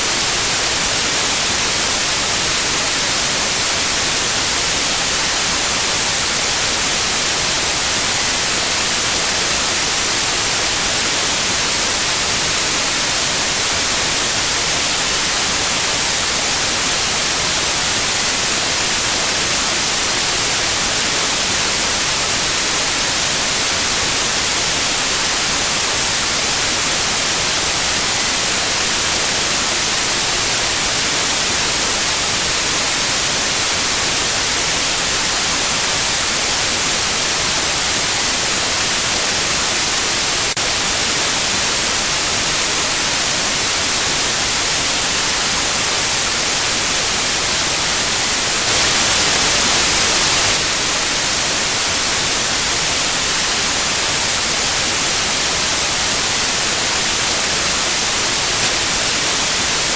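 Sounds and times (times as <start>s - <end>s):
high-pitched steady tone: 0.0s - 59.9s
steady white noise hiss: 0.0s - 59.9s.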